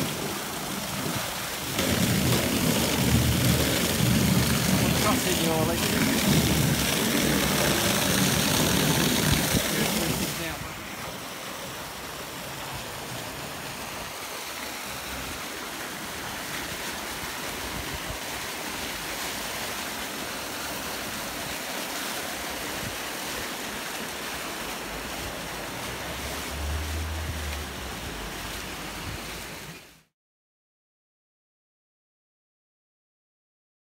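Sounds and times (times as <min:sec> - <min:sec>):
hose water splashing into water: 0:00.0 - 0:30.1.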